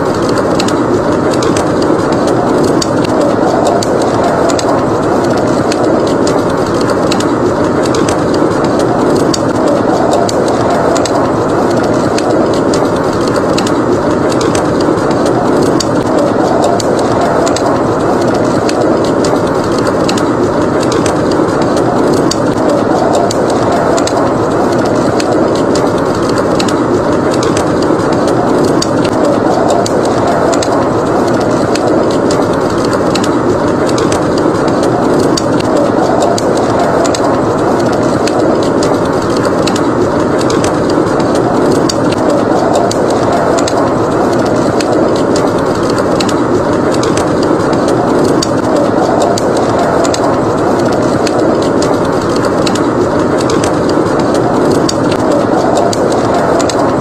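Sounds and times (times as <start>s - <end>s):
blizzard wind roaring: 0.0s - 57.0s
wood fire crackling: 0.0s - 57.0s.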